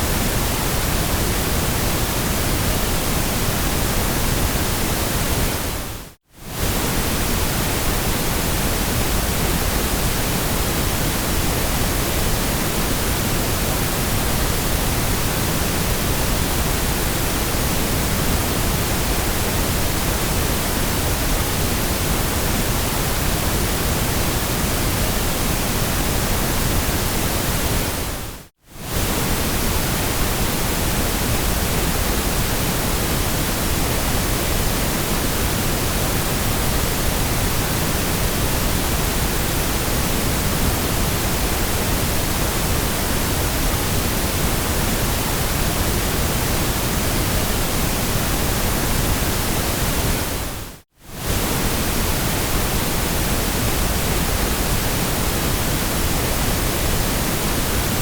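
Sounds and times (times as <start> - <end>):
electronic white noise hiss: 0.0 - 58.0.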